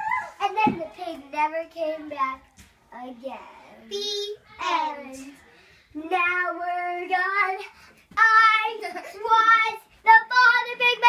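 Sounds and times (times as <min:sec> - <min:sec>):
child singing: 0:00.4 - 0:11.0.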